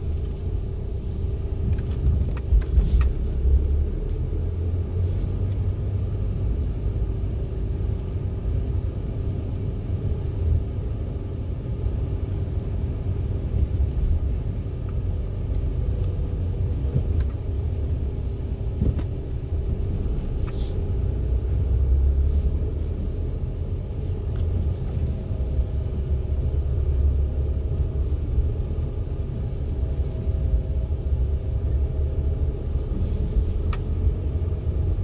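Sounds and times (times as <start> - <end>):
car engine and tyre rumble: 0.0 - 35.0.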